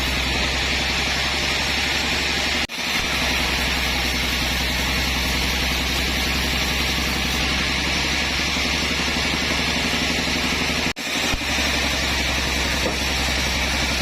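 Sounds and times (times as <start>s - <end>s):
sawmill machinery running: 0.0s - 14.0s.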